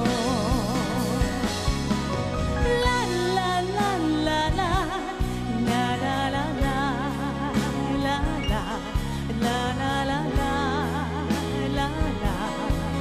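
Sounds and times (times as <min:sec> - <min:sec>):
woman singing with vibrato: 0:00.0 - 0:01.9, 0:02.6 - 0:13.0
band accompaniment: 0:00.0 - 0:13.0.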